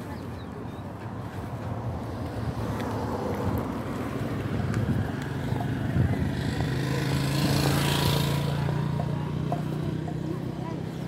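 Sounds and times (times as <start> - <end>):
vehicle engine hum: 0.0 - 11.0
vehicle passing whoosh: 1.4 - 10.6.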